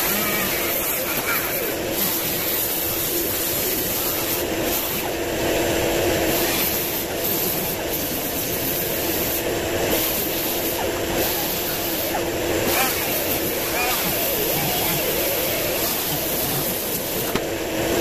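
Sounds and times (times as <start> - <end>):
air hiss: 0.0 - 18.0
die grinder grinding steel: 0.0 - 18.0.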